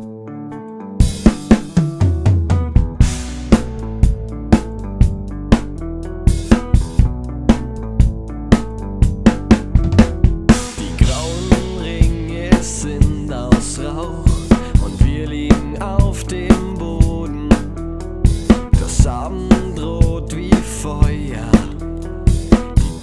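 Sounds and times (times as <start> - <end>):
bass and guitar: 0.0 - 23.0
drum kit playing: 1.0 - 23.0.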